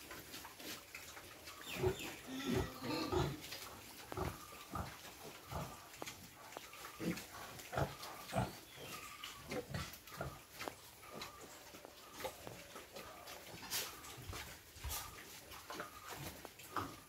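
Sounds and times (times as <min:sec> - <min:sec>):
pigs grunting: 0:01.7 - 0:17.0.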